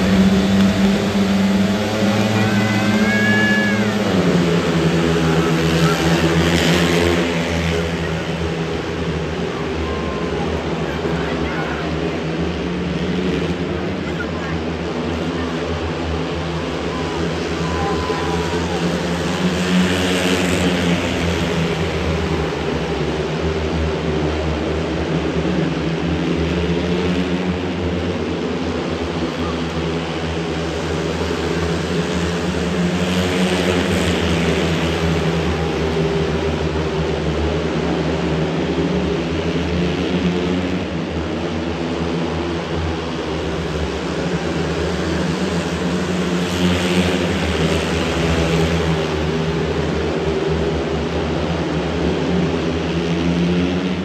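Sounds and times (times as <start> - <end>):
motorcycle engines racing: 0.0 - 54.0.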